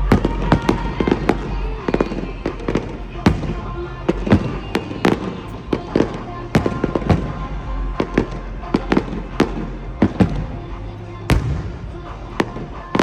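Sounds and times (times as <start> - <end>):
fireworks bangs and cracks: 0.0 - 10.7, 11.3 - 13.0.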